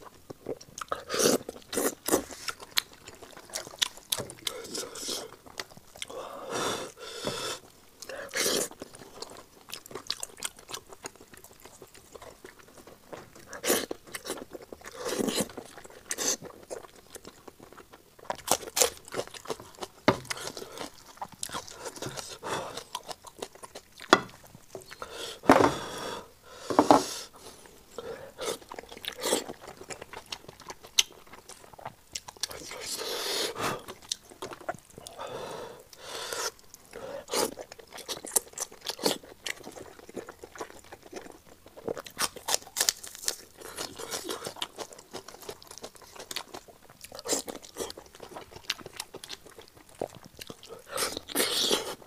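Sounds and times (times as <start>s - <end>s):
chewing and smacking: 0.0s - 6.2s, 7.6s - 25.1s, 27.4s - 33.0s, 33.8s - 35.2s, 35.9s - 52.0s.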